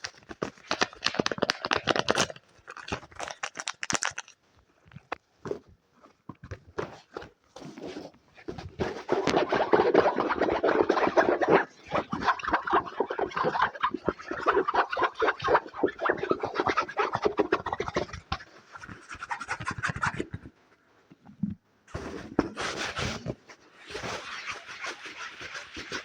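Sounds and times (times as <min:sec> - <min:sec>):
fast scratching and tapping: 0:00.0 - 0:05.6, 0:06.4 - 0:20.5, 0:22.0 - 0:26.0.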